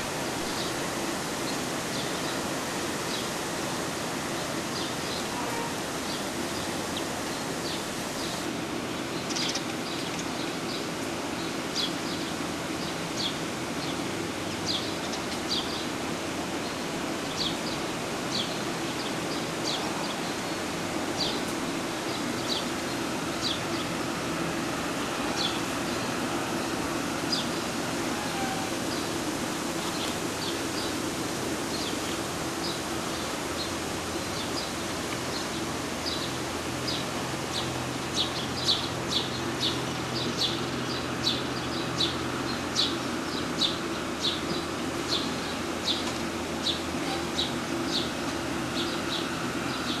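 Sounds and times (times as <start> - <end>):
outdoor hiss: 0.0 - 50.0.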